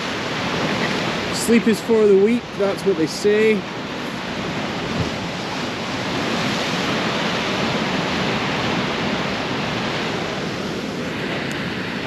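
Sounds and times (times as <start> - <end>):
surf washing against rocks: 0.0 - 12.0.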